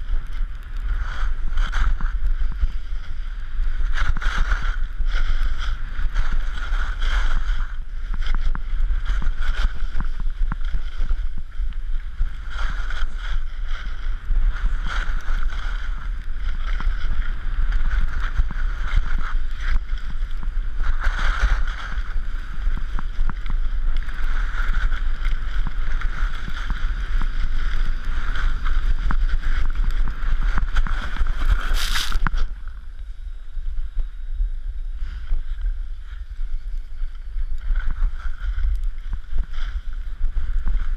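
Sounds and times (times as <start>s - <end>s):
skis scraping on snow: 0.0s - 40.9s
wind buffeting microphone: 0.0s - 40.9s.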